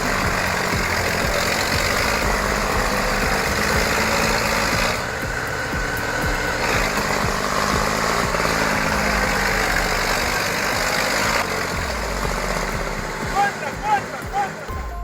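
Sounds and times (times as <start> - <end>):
broad rushing noise: 0.0 - 14.8
tractor engine running: 0.0 - 15.0.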